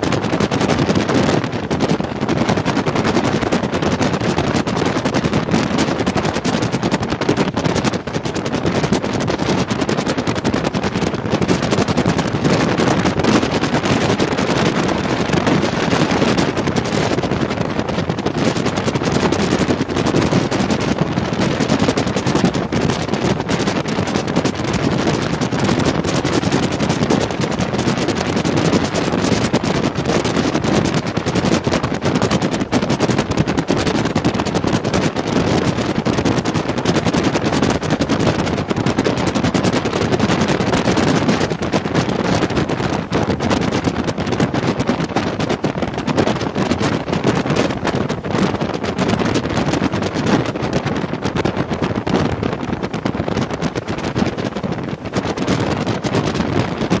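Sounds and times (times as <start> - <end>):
rapid crackling rattle: 4.1 - 57.0.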